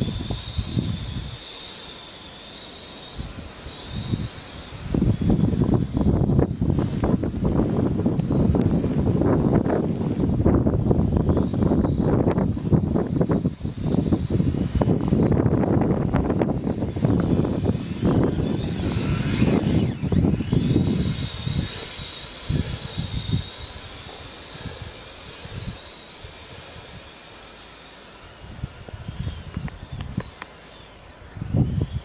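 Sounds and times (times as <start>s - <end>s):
wind buffeting microphone: 0.0s - 1.5s, 3.2s - 27.2s, 28.2s - 30.4s, 31.4s - 32.0s
electric motors whining: 0.0s - 32.0s.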